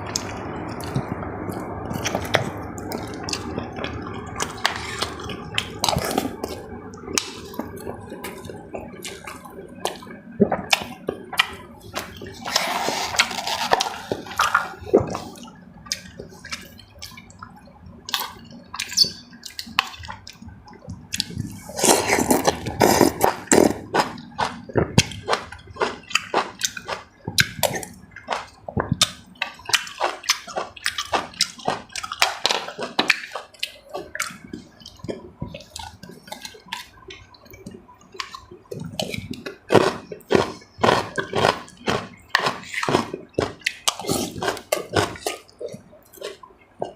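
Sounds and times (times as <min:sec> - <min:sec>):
wet chewing and slurping: 0:00.1 - 0:17.5, 0:18.1 - 0:46.9.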